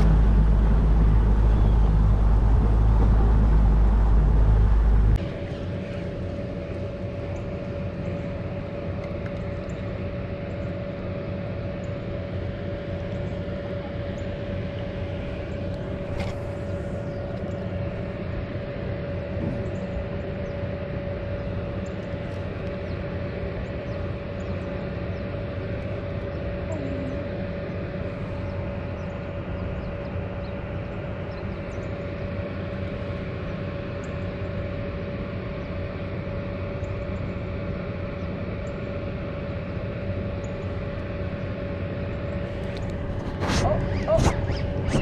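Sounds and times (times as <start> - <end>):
loud low motor rumble: 0.0 - 45.0
motor hum with mid-pitched whine: 0.0 - 45.0.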